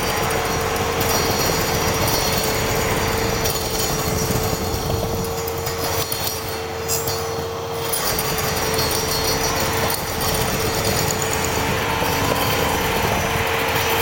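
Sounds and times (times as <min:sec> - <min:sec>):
circular saw cutting wood: 0:00.0 - 0:14.0.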